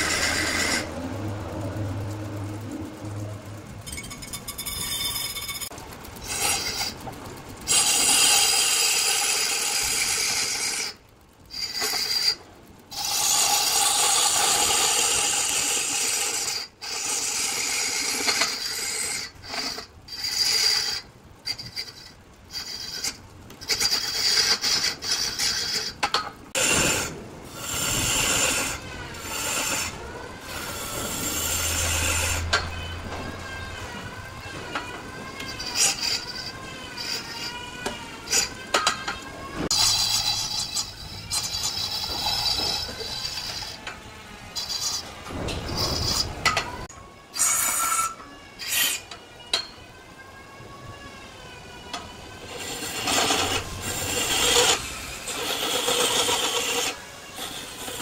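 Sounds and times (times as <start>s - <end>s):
lathe tool scraping wood: 0.0s - 1.7s, 4.0s - 49.1s, 51.5s - 58.0s.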